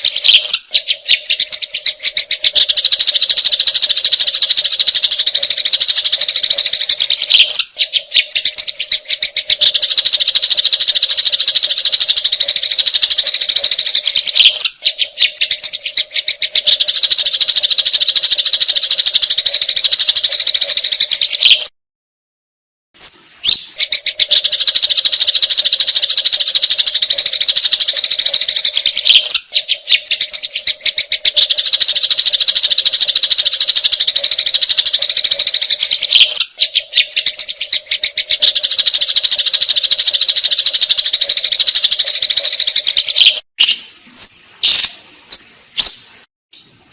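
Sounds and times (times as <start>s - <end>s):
sparrows chirping rapidly: 0.0s - 21.7s, 23.0s - 46.2s.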